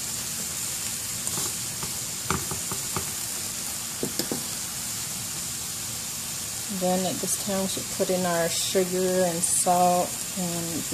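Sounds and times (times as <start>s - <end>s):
meat sizzling in oil: 0.0s - 10.9s.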